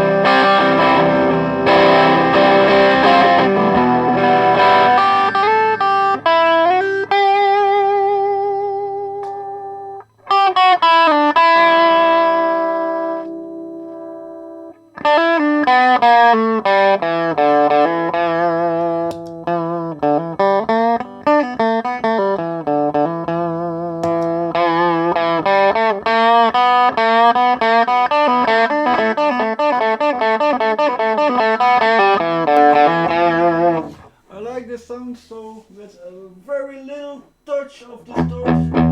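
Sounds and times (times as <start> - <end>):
distorted electric guitar: 0.0 - 34.2, 38.1 - 38.9.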